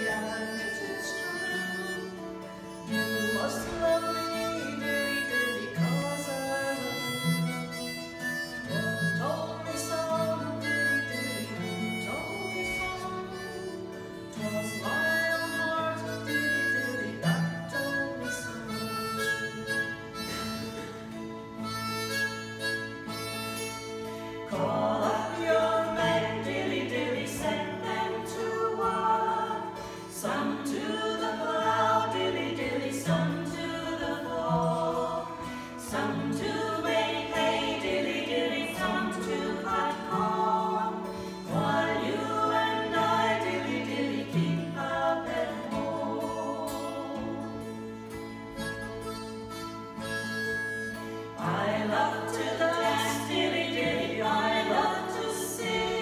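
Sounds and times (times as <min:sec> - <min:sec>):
voices singing together: 0:00.0 - 0:07.8, 0:08.6 - 0:18.6, 0:24.2 - 0:48.2, 0:51.3 - 0:56.0
acoustic guitar: 0:00.0 - 0:56.0
harmonica: 0:00.0 - 0:56.0.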